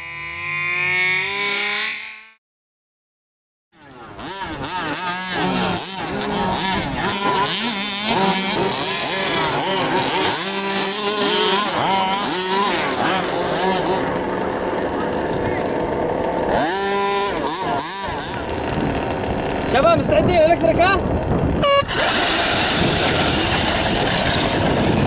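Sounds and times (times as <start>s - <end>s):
electric motors whining: 0.0s - 2.4s, 3.8s - 25.0s.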